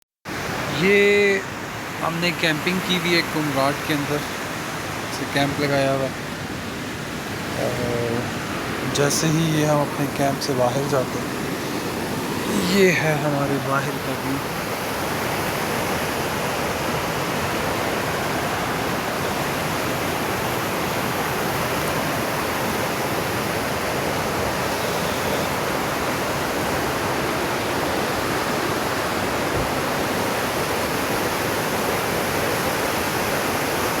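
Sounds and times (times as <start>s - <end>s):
rushing mountain stream: 0.3s - 34.0s.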